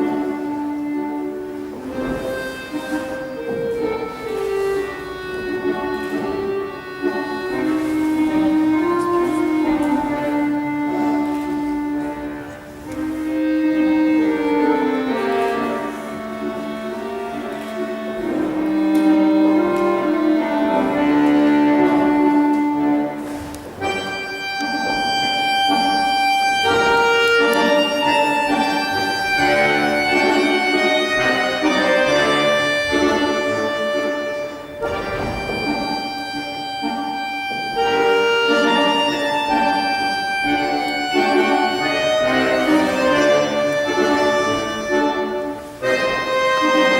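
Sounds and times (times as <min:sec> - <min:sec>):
instrumental dance accompaniment: 0:00.0 - 0:46.9.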